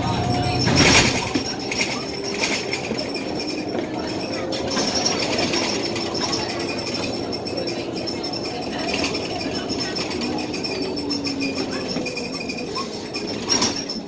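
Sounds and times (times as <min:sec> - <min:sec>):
bus diesel engine droning: 0:00.0 - 0:14.0
bus fittings rattling: 0:00.0 - 0:14.0.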